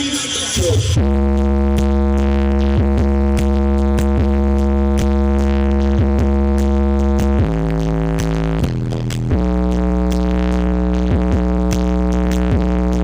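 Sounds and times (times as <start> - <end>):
deep synth bass note: 0.8 - 13.0.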